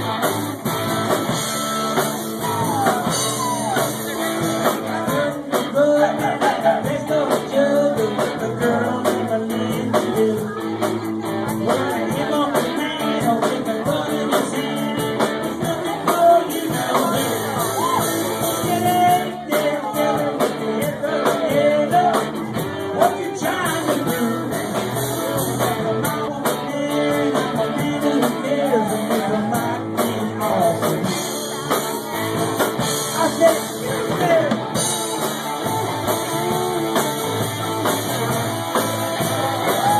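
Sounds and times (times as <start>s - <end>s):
drums: 0.0s - 39.9s
electric guitar: 0.0s - 39.9s
person singing: 2.2s - 37.4s.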